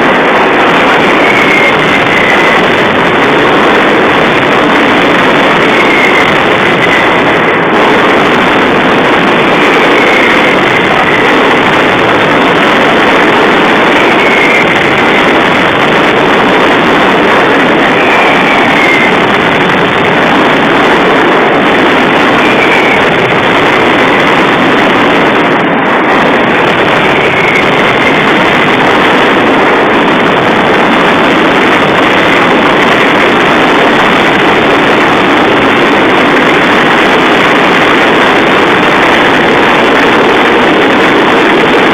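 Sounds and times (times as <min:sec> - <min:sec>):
firecracker barrage: 0:00.0 - 0:41.9.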